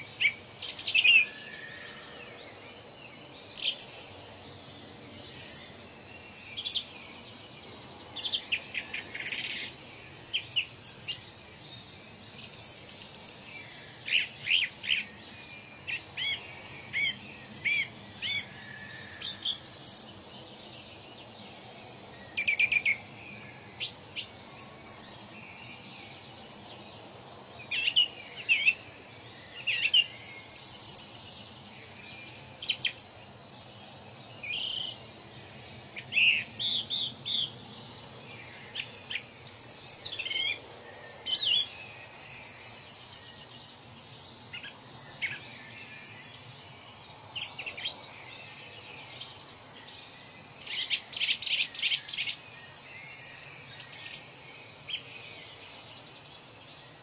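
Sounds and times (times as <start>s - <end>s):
birds chirping and trilling: 0.0s - 57.0s
low background hiss: 0.0s - 57.0s.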